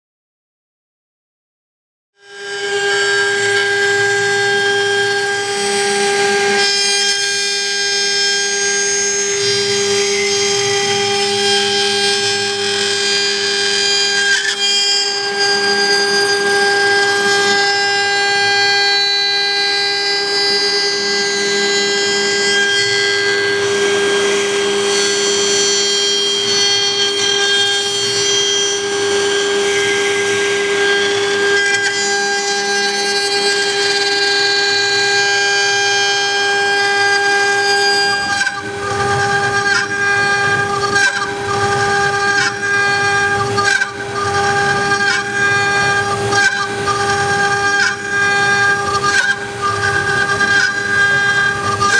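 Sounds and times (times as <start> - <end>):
router bit carving wood: 2.2 - 51.9
router spindle whining: 2.2 - 51.9.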